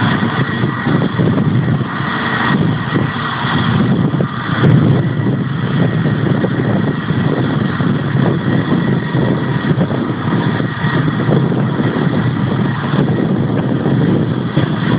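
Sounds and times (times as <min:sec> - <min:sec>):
engine rumble: 0:00.0 - 0:14.9
faint high whine: 0:00.0 - 0:14.9.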